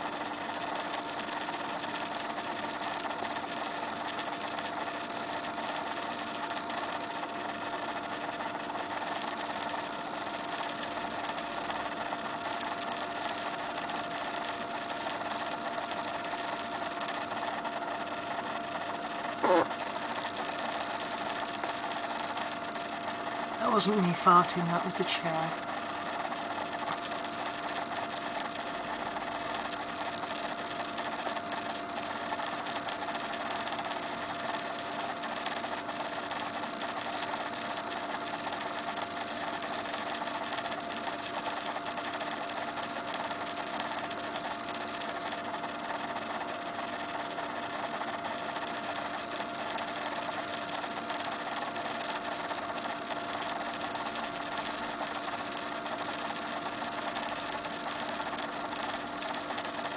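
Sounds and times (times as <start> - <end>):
small motor whirring hum: 0.0 - 59.9.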